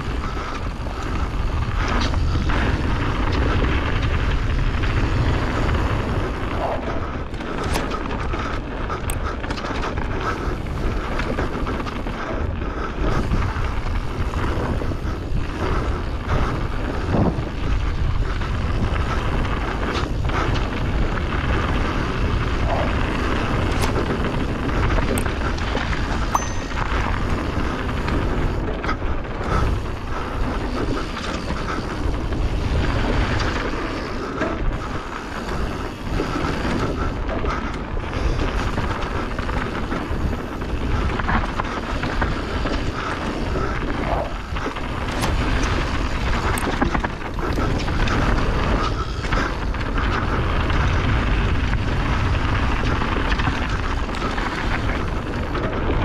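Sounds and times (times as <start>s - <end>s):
bike knocking and rattling: 0.0s - 56.0s
tyres rolling over loose stones: 0.0s - 56.0s
wind rushing on microphone: 0.0s - 56.0s.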